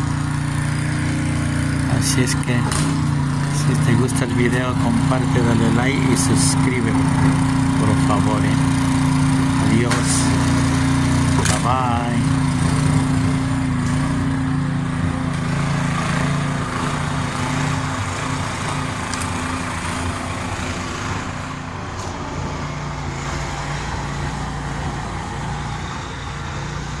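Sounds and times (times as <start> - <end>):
snow blower engine running: 0.0 - 27.0.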